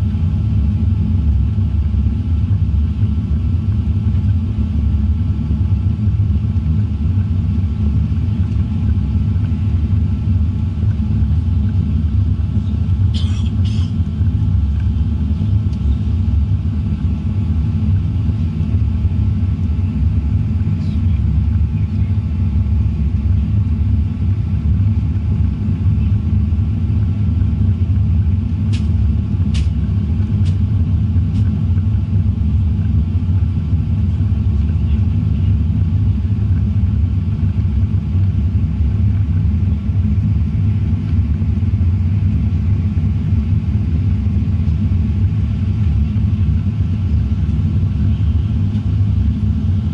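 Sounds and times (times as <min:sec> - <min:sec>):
airliner cabin rumble: 0:00.0 - 0:49.9.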